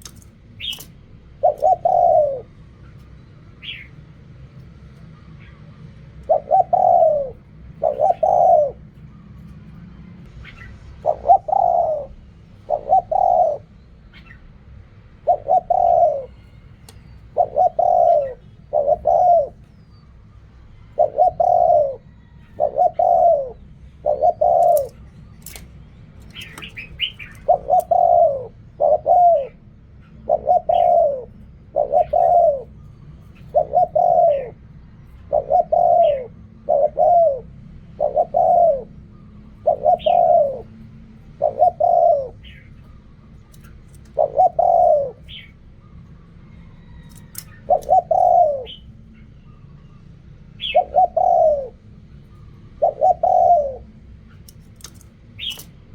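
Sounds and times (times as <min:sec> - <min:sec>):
dove cooing: 0:00.0 - 0:03.9, 0:05.4 - 0:14.4, 0:15.0 - 0:49.7, 0:50.4 - 0:55.9.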